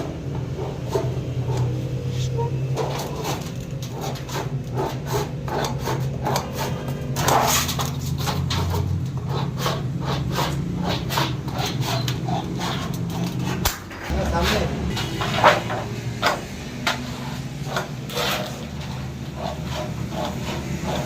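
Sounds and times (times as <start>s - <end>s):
hand tool rasping on steel: 0.2s - 21.0s.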